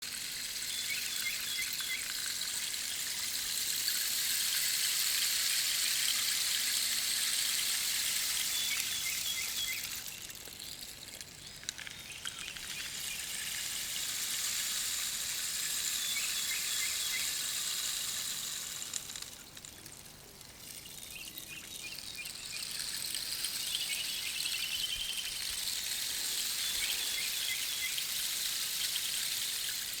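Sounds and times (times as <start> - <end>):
rain stick pebbles trickling: 0.0 - 30.0.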